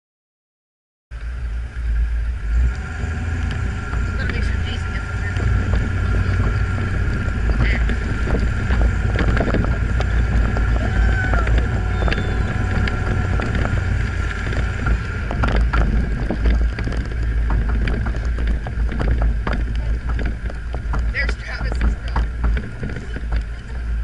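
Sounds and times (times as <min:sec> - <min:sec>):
vehicle engine driving on snow: 0:01.1 - 0:24.0
wind on microphone: 0:01.4 - 0:24.0
clicks and rattles: 0:03.4 - 0:24.0.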